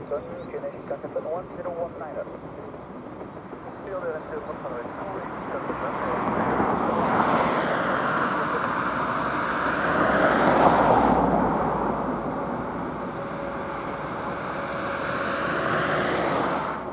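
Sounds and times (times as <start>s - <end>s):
jet engines rushing: 0.8s - 16.9s.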